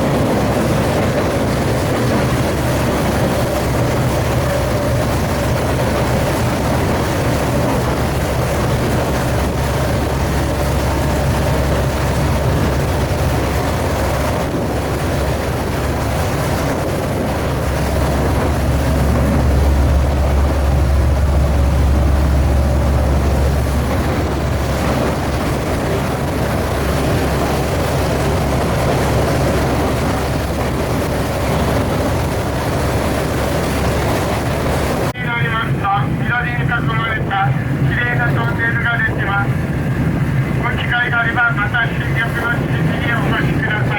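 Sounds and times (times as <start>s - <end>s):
rail cart rumbling along track: 0.0s - 43.9s.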